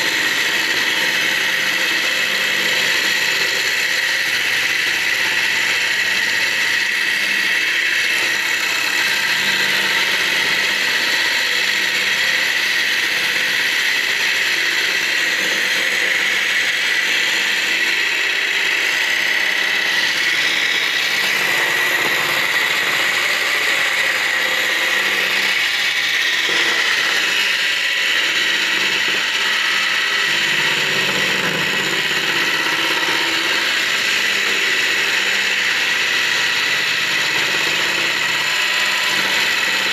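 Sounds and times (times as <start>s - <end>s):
circular saw whining: 0.0s - 39.9s
saw ripping wood strips: 0.0s - 39.9s.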